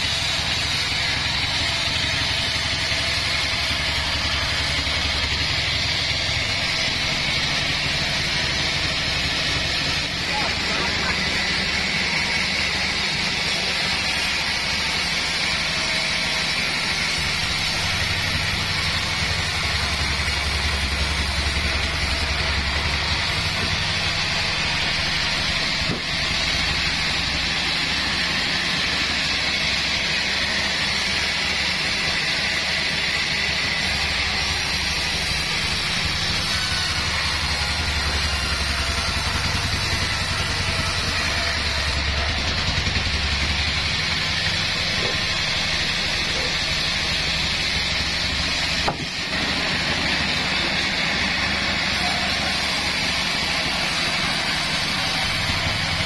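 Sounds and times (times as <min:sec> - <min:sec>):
band sawmill sawing log: 0:00.0 - 0:56.0.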